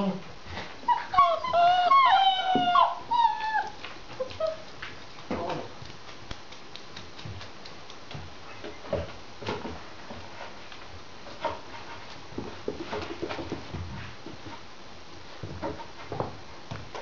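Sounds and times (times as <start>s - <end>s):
puppies scuffling: 0.2s - 17.0s
paws and claws clicking: 1.2s - 17.0s.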